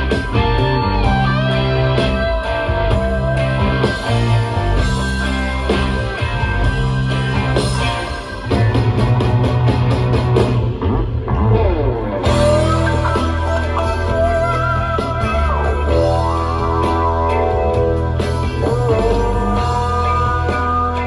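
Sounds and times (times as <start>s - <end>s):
instrumental rock band: 0.0s - 21.0s.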